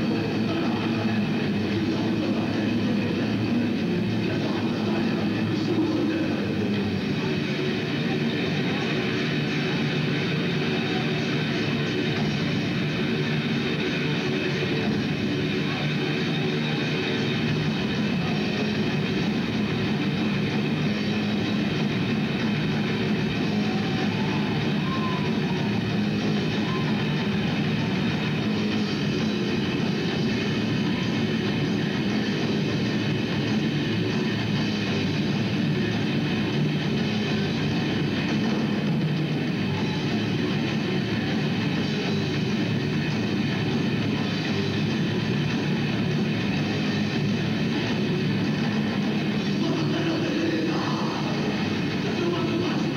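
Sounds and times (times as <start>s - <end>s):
bass guitar: 0.0s - 52.9s
distorted electric guitars: 0.0s - 52.9s
drums: 0.0s - 52.9s.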